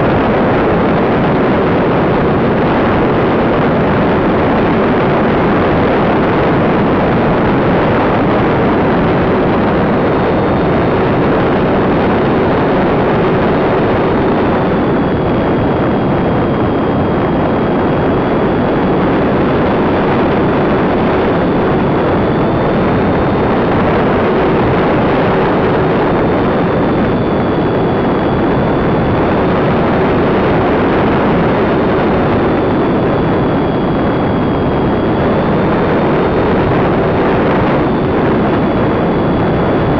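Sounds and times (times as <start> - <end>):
heavy wind rush: 0.0 - 39.9
high motor whine: 0.0 - 39.9.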